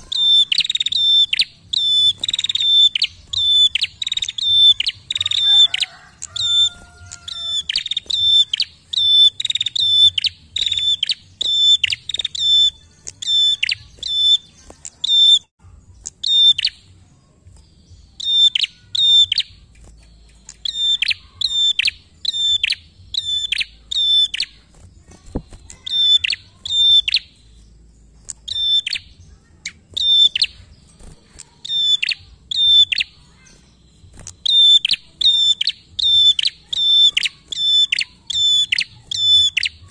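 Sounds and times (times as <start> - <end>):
bird sharp high calls: 0.0 - 17.1, 17.8 - 39.9.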